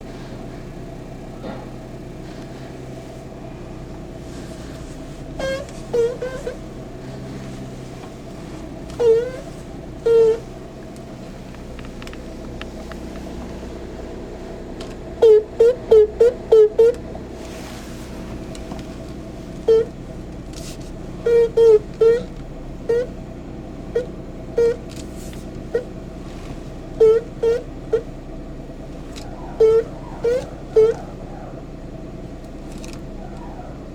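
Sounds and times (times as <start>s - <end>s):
engine idling: 0.0s - 33.9s
steady low hum: 0.0s - 33.9s
rubber boot squeaking: 1.3s - 33.7s.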